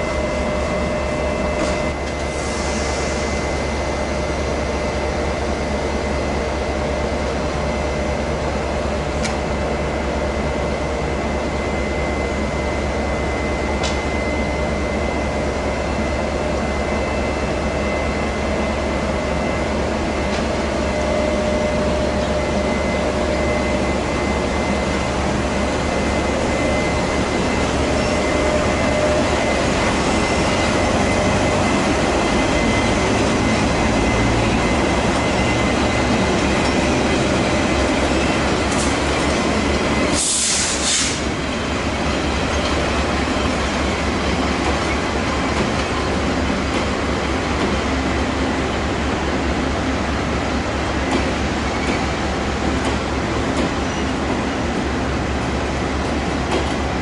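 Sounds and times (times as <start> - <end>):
electric locomotive hum and whine: 0.0 - 57.0.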